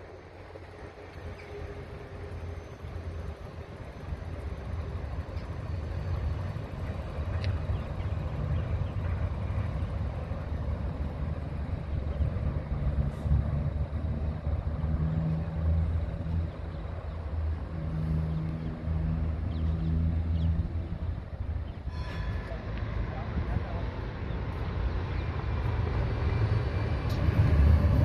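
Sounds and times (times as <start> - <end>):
tram rumbling past: 0.0 - 28.0.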